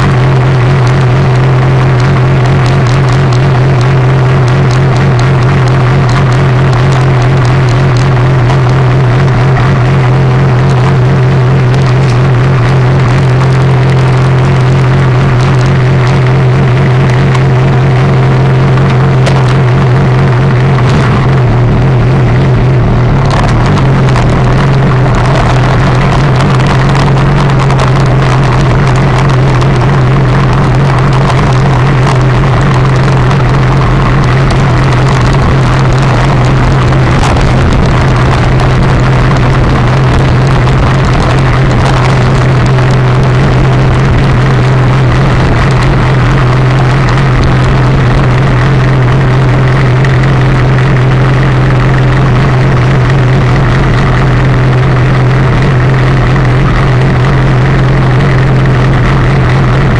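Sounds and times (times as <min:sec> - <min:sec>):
motorcycle riding at speed: 0:00.0 - 0:59.9.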